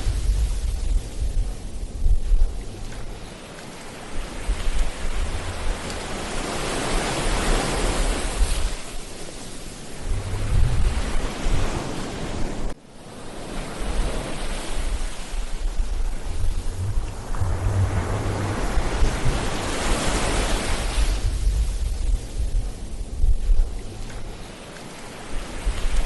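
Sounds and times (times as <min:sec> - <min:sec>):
ocean waves breaking on beach: 0:00.0 - 0:26.0
wind on microphone: 0:00.0 - 0:26.0.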